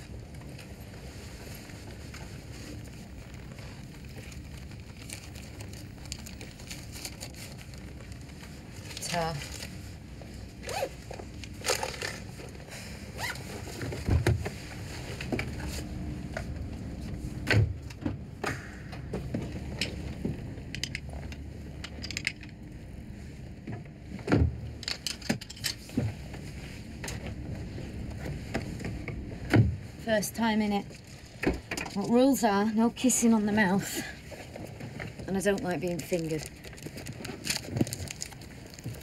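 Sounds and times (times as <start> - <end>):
car engine rumble inside cabin: 0.0 - 32.4.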